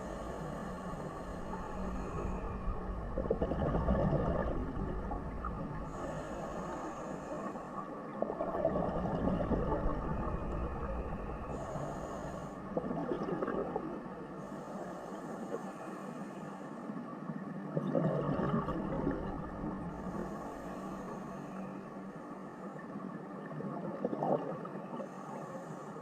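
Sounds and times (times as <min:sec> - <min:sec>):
steady low underwater hum: 0:00.0 - 0:26.0.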